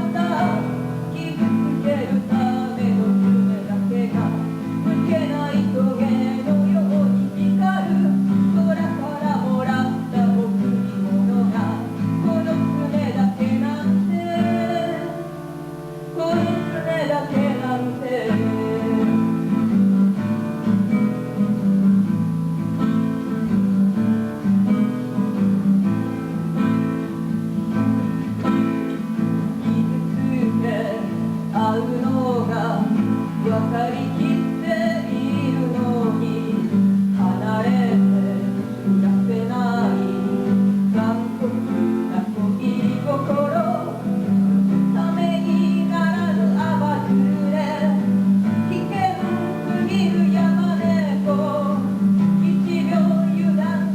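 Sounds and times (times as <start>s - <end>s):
person singing: 0.0s - 20.3s, 27.8s - 53.9s
acoustic guitar: 0.0s - 53.9s.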